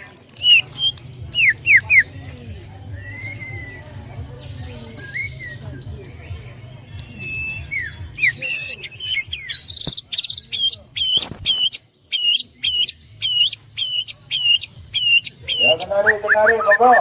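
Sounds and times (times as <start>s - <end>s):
caged songbirds singing: 0.0s - 17.0s.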